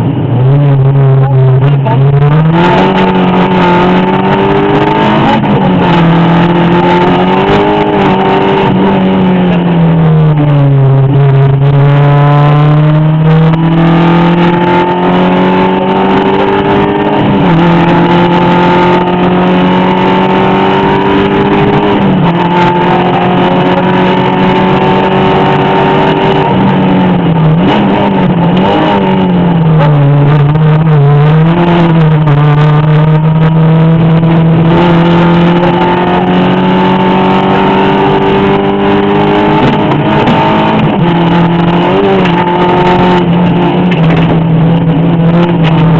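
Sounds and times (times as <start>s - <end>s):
rally car engine under load: 0.0s - 45.9s.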